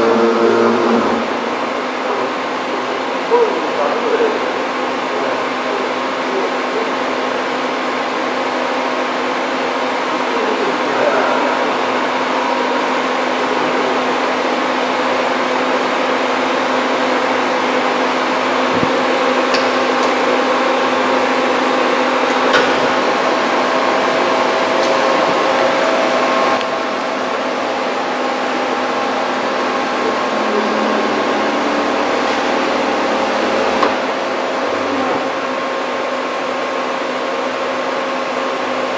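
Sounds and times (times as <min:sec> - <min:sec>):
machine whining tones: 0:00.0 - 0:38.8
machine hum: 0:00.0 - 0:38.9.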